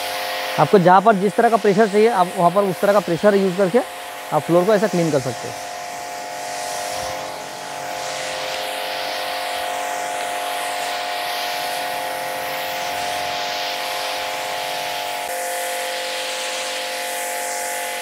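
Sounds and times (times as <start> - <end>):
pressure washer motor hum: 0.0 - 18.0
water jet hissing on concrete: 0.0 - 18.0.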